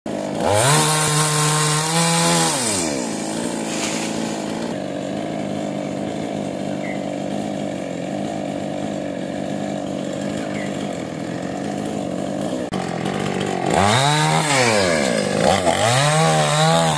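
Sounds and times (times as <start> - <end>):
chainsaw engine revving and idling: 0.1 - 16.9.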